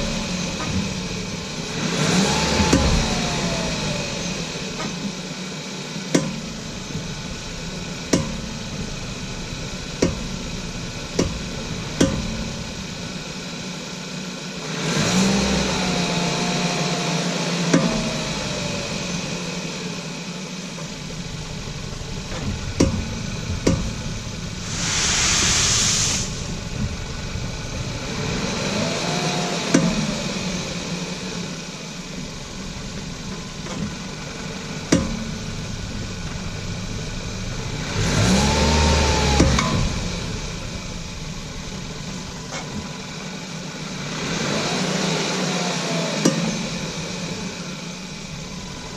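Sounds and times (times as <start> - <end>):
brakes clunking: 0.0 - 5.4, 6.0 - 13.7, 20.8 - 44.8, 45.5 - 48.9
car engine idling: 0.0 - 48.9.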